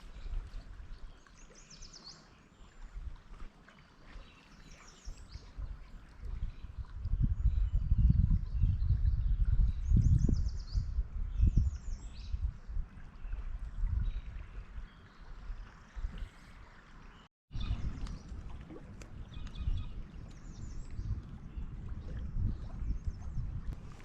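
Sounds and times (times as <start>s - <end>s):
wind rumble on microphone: 0.0s - 1.2s, 2.8s - 3.5s, 4.8s - 24.0s
water: 0.0s - 24.0s.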